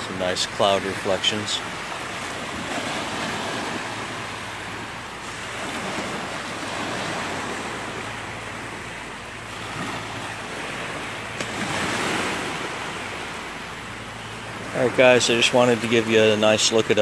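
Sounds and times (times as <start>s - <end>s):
small waves breaking on shore: 0.0s - 17.0s.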